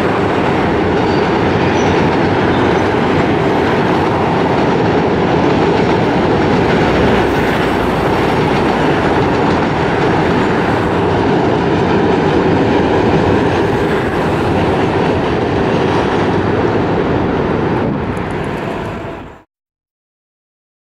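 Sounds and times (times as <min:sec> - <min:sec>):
freight train wheels clattering on rails: 0:00.0 - 0:19.4.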